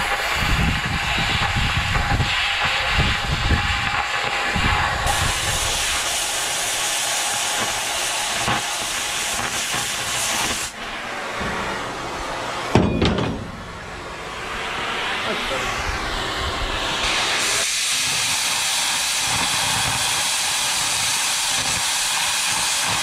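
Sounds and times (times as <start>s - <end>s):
cutting torch hissing: 0.0s - 23.0s.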